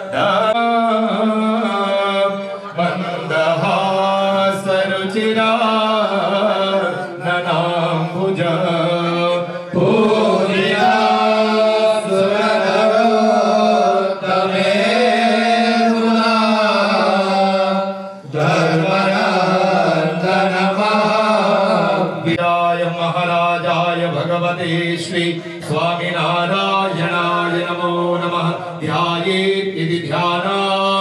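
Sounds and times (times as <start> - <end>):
men chanting into microphones: 0.0 - 31.0.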